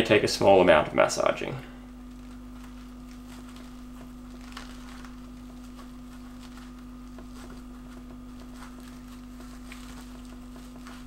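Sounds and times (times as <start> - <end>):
steady low hum: 0.0 - 11.0
rustling of webbing: 2.1 - 11.0.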